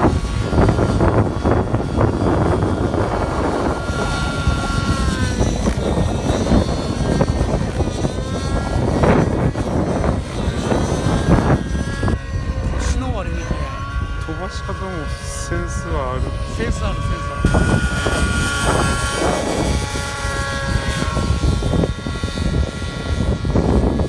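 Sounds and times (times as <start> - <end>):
model aircraft motor whine: 0.0 - 24.0
wind rumble on microphone: 0.0 - 24.0.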